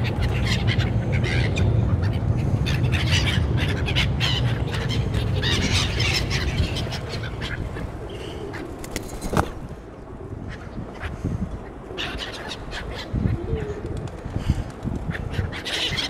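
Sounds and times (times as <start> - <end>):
gulls squawking: 0.0 - 9.7, 10.3 - 14.1, 15.0 - 16.0.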